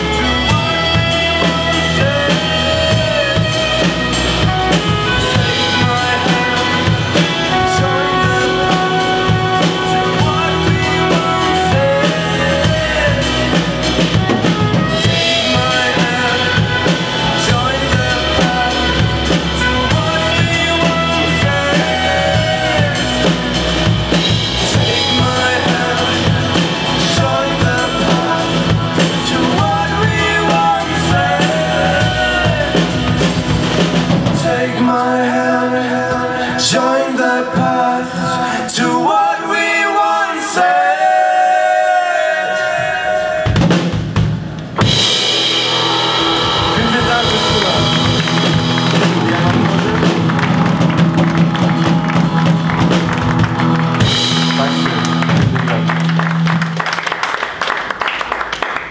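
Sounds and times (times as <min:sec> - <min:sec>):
saxophone: 0:00.0 - 0:36.8, 0:44.6 - 0:56.9
drum kit: 0:00.0 - 0:38.2, 0:40.6 - 0:58.9
lead vocal singing: 0:00.0 - 0:44.2, 0:44.8 - 0:56.3
keyboard: 0:00.0 - 0:56.8
acoustic guitar: 0:00.0 - 0:58.0.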